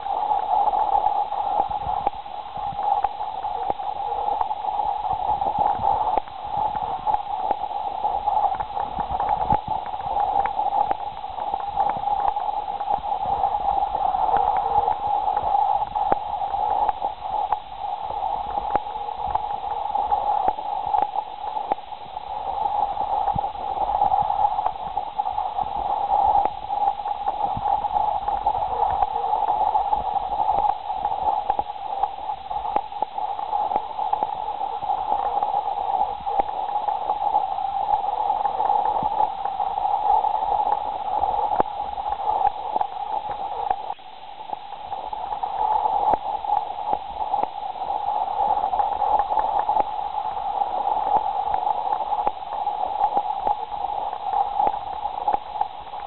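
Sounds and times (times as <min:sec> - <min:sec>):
crackling hiss: 0:00.0 - 0:56.0.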